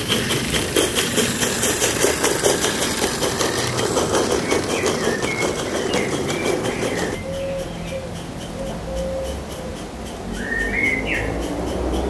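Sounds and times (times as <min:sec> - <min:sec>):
model steam train rolling past: 0:00.0 - 0:12.0
quick even ticking: 0:00.0 - 0:12.0.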